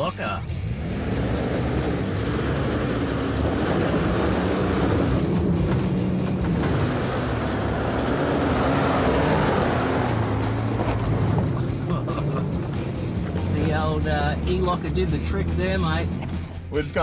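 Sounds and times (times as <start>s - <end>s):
tyres and drivetrain noise: 0.0s - 17.0s
truck engine pulling under load: 0.5s - 16.7s.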